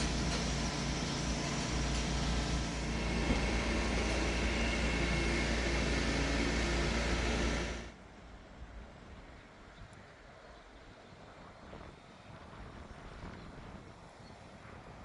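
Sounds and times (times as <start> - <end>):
train rumble and hiss: 0.0 - 15.0.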